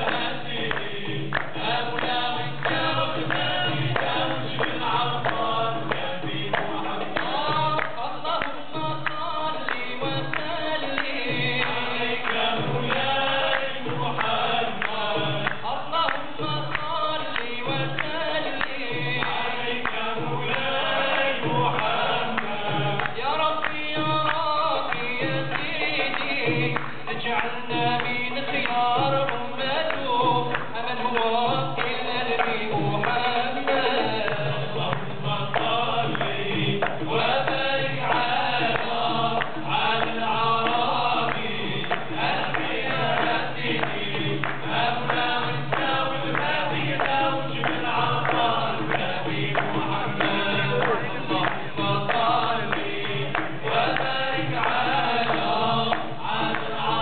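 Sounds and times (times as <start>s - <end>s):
frame drum beat: 0.0s - 57.0s
men singing as a choir: 0.0s - 57.0s.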